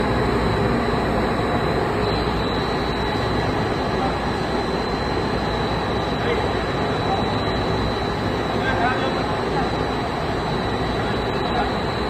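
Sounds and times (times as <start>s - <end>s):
high whine: 0.0s - 12.0s.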